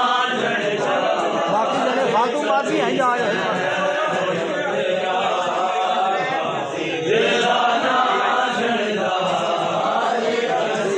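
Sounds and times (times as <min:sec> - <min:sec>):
group chanting: 0:00.0 - 0:10.9.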